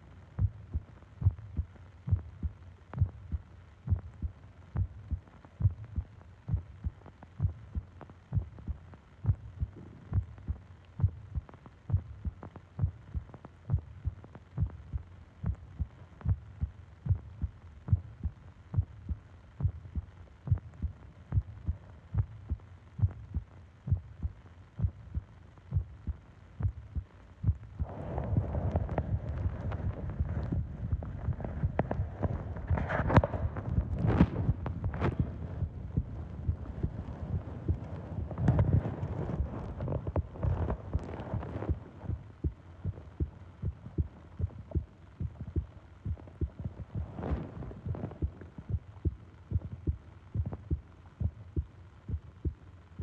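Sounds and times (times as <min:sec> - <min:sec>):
heartbeat thumps: 0:00.3 - 0:52.6.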